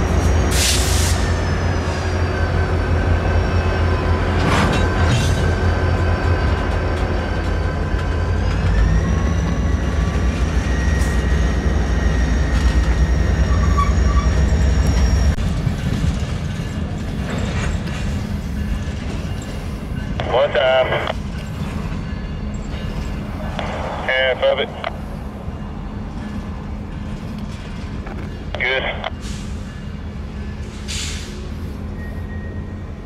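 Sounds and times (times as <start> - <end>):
diesel locomotive engine hum: 0.0 - 33.0
train wheels rumbling on rail: 0.0 - 33.0.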